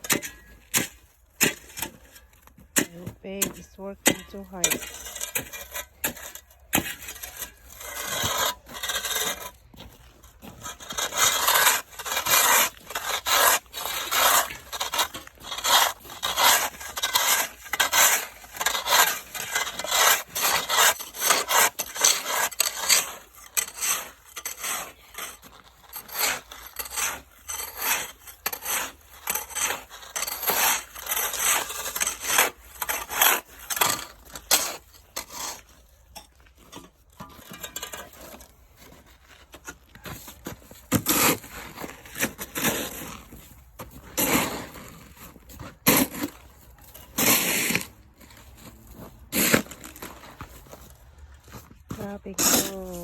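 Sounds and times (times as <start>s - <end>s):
ice scraping strokes: 0.0s - 53.0s.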